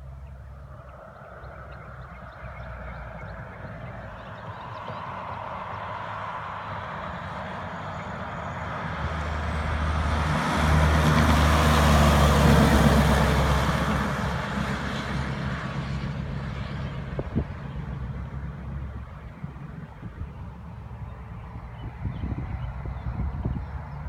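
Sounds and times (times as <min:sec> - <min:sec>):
diesel truck driving past: 0:00.0 - 0:24.0.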